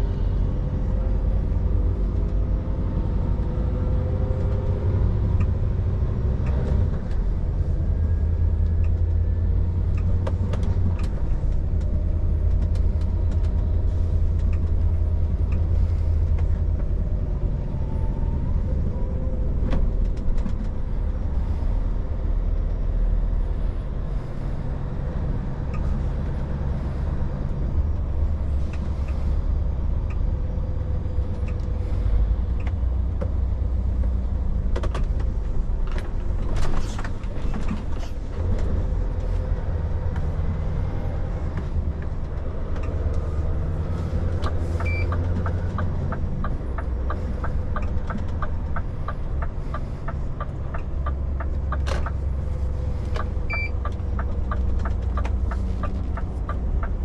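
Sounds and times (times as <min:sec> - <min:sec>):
truck engine rumble: 0:00.0 - 0:57.0.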